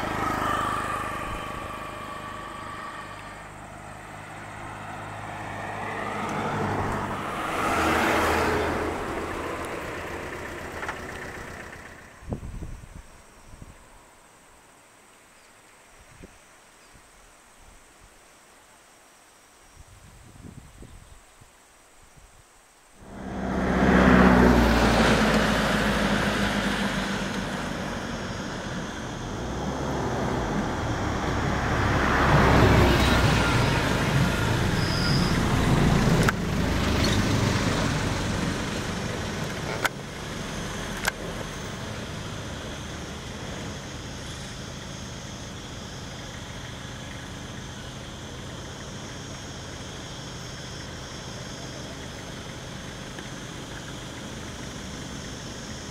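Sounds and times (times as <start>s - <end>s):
vehicle engines idling: 0.0s - 14.8s, 23.0s - 55.9s.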